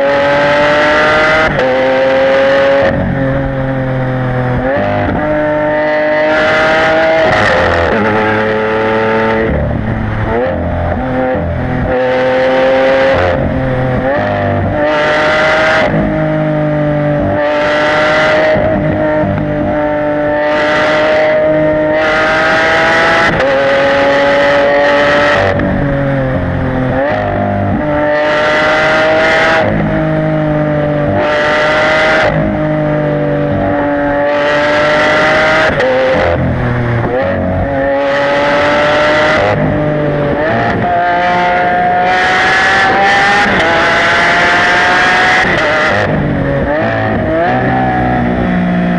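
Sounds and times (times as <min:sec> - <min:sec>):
sports car engine running: 0:00.3 - 0:48.9.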